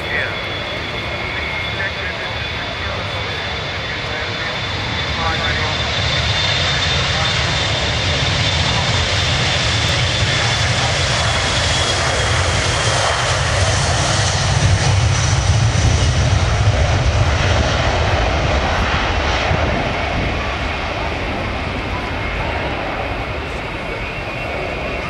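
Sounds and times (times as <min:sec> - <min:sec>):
jet engine noise with high whine: 0:00.0 - 0:25.0.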